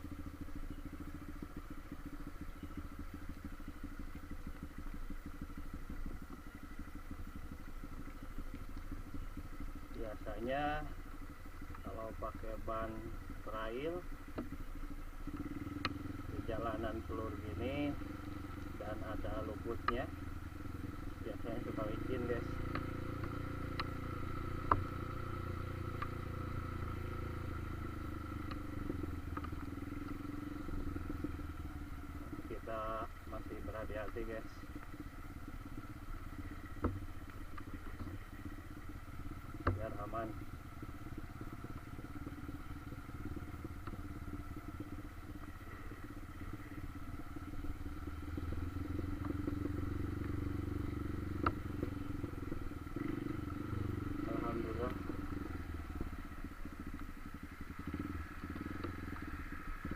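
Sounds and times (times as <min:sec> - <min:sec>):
motorcycle engine idling: 0:00.0 - 0:59.9
light ticks: 0:00.4 - 0:11.9, 0:12.6 - 0:17.0, 0:19.5 - 0:59.9.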